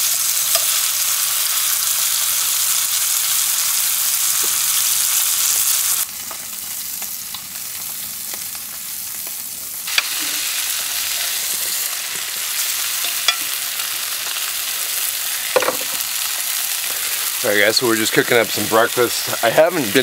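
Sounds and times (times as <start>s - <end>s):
steak sizzling in a skillet: 0.0s - 20.0s.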